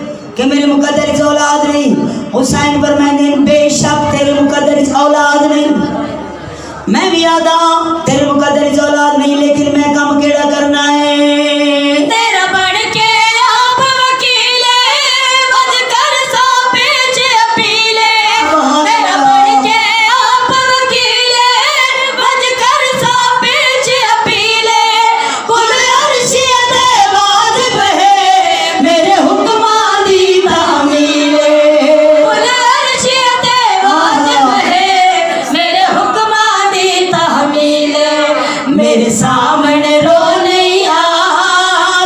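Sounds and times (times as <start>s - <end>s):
woman singing devotional poem: 0.0s - 6.0s, 6.9s - 42.0s.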